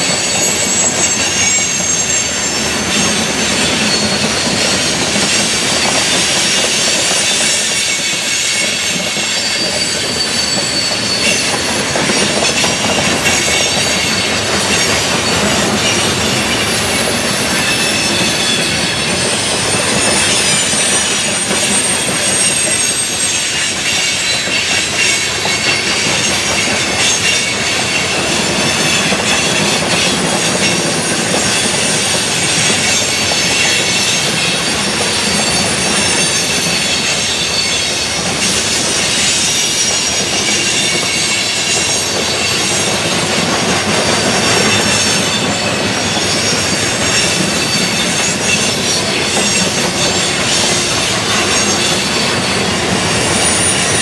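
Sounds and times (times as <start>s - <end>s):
high-pitched wheel squeals: 0.0s - 54.0s
train wheels rumbling on rail: 0.0s - 54.0s.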